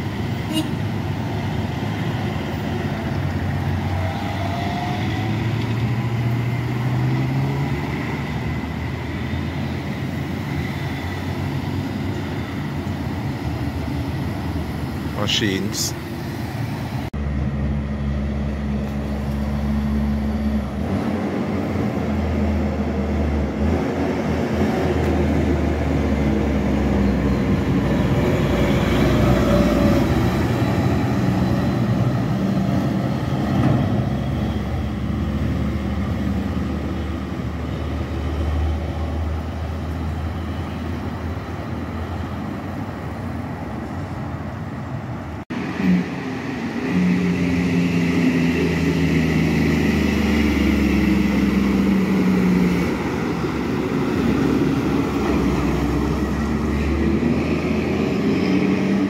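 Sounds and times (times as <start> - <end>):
cars passing: 0.0 - 59.0
dump truck passing: 0.0 - 59.0.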